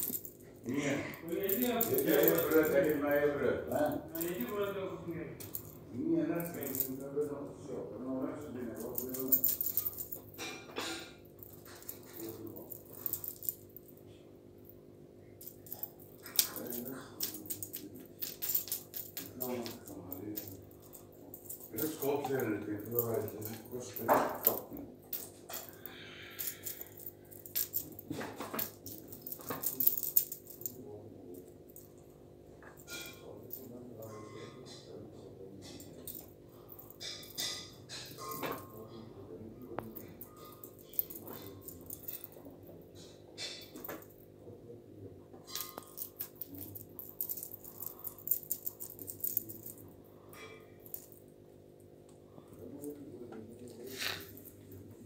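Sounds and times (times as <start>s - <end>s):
metal chain clinking on tiles: 0.0s - 4.8s, 5.4s - 7.1s, 8.5s - 14.0s, 15.4s - 30.9s, 31.7s - 34.9s, 35.6s - 39.0s, 39.8s - 44.2s, 45.4s - 51.3s, 52.3s - 55.0s
low steady hum: 0.0s - 35.0s, 35.6s - 55.0s.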